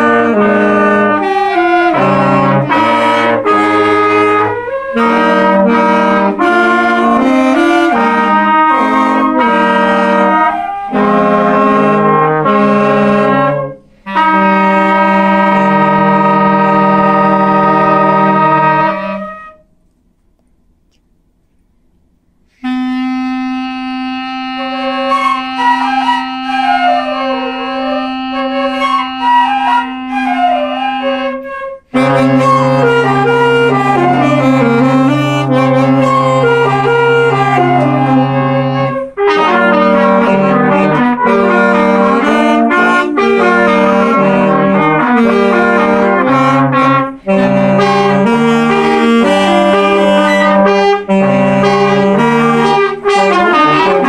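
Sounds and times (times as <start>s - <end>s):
school wind band playing: 0.0s - 19.7s, 22.5s - 54.0s.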